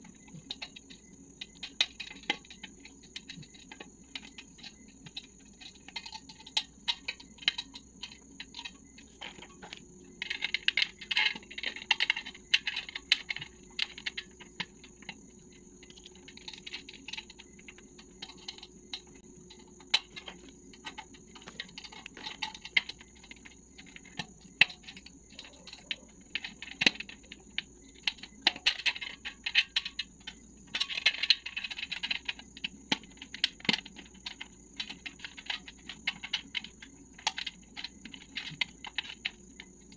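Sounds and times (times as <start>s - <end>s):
small metallic clicks and taps: 0.0s - 39.9s.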